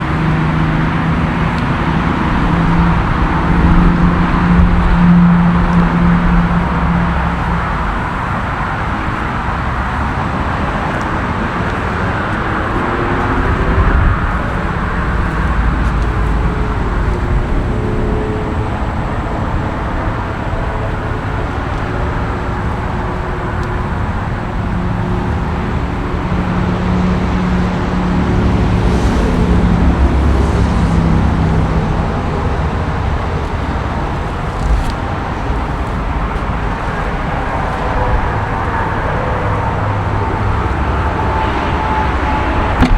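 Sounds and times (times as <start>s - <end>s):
car engine running: 0.0s - 42.9s
road and tyre noise: 0.0s - 42.9s.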